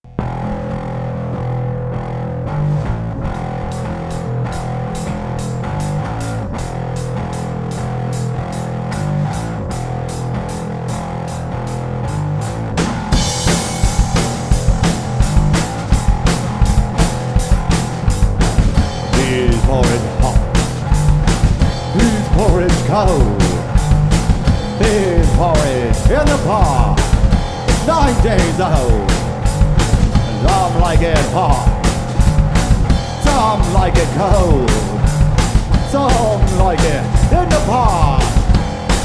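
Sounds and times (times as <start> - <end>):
electric bass riff: 0.0 - 39.0
drum kit playing: 3.2 - 39.0.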